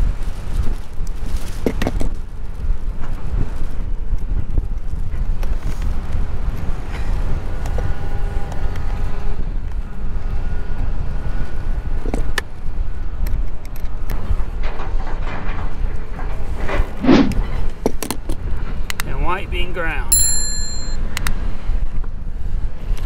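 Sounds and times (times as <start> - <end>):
wind rumbling on microphone: 0.0 - 20.4, 21.0 - 23.0.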